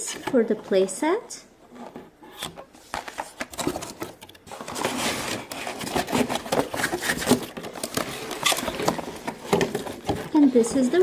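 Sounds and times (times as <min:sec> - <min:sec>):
plastic packaging rustling and clicking: 0:01.8 - 0:11.0.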